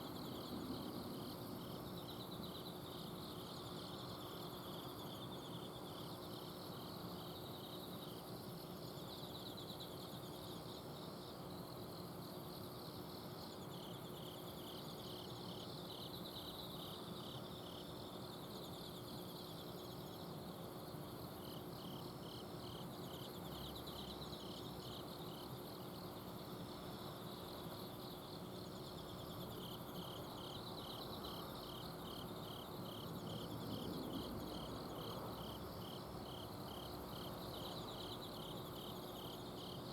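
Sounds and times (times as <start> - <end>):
cricket chirping: 0.0 - 39.9
crickets trilling: 0.0 - 39.9.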